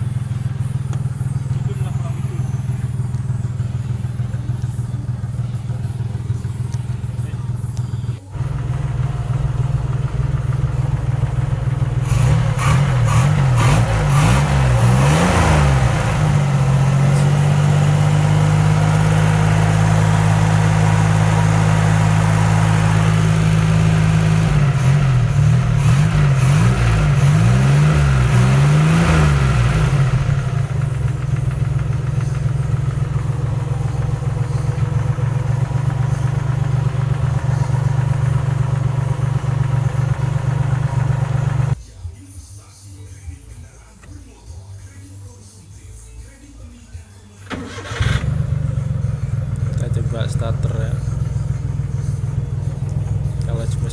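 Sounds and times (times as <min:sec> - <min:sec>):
engine idling and revving: 0:00.0 - 0:41.8, 0:47.5 - 0:53.9.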